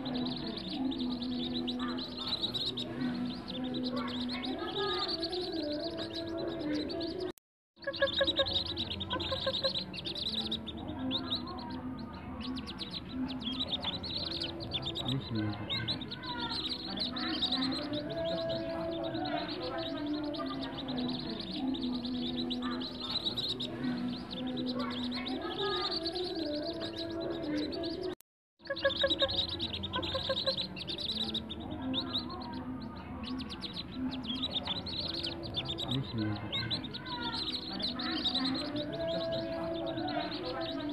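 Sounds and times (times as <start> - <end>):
ducklings peeping: 0.0 - 40.9.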